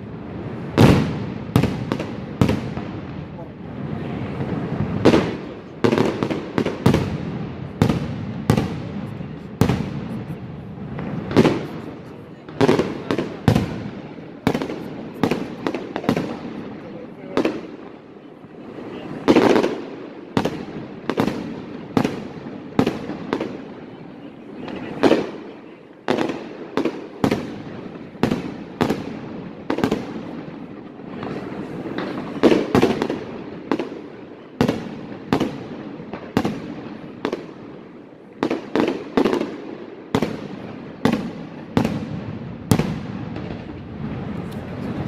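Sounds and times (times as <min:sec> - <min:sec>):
fireworks bangs with echo: 0:00.0 - 0:45.0.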